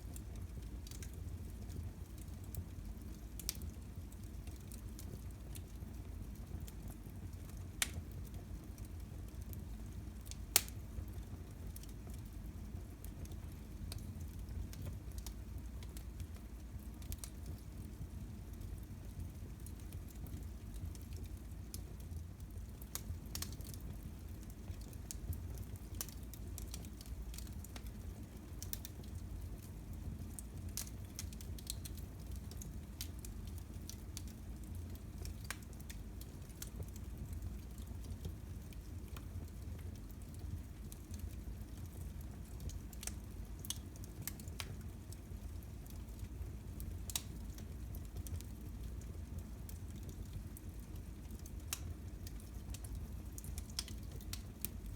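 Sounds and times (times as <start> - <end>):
fire crackling: 0.0 - 54.9
low fire rumble: 0.0 - 54.9.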